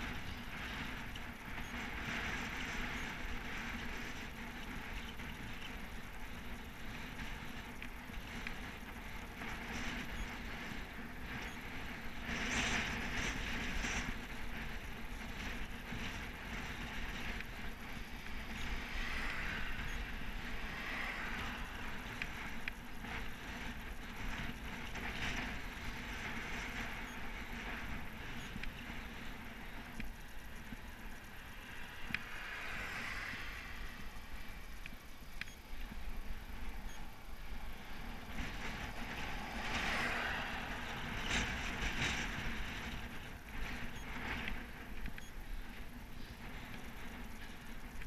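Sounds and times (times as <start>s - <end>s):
wind buffeting microphone: 0.0s - 31.3s, 32.8s - 48.0s
bike tyres rolling on tarmac: 0.0s - 48.0s.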